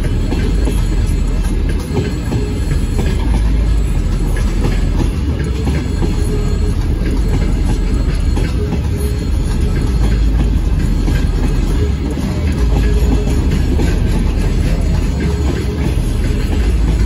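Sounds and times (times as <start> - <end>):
freight train rumbling past: 0.0 - 17.0
train wheels clicking over rail joints: 0.0 - 17.0.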